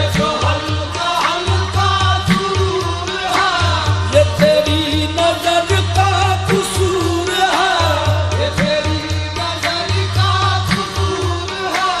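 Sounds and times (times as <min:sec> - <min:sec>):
sharp percussion strikes: 0:00.0 - 0:12.0.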